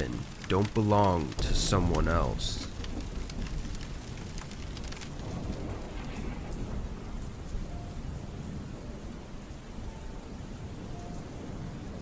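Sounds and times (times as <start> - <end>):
steady rain falling: 0.0 - 12.0
thunder rumbling: 1.2 - 12.0.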